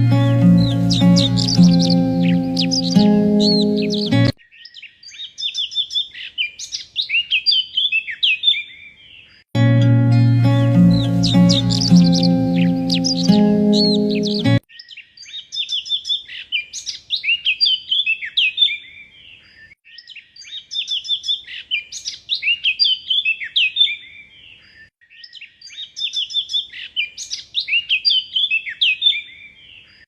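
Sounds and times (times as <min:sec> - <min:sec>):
songbird twittering song: 0:00.0 - 0:30.0.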